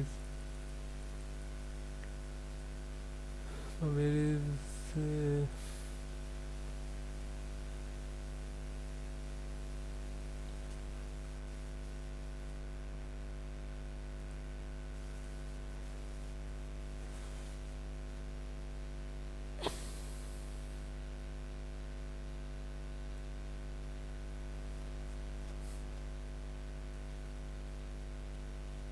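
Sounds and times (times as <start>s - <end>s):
mains hum: 0.0s - 28.9s.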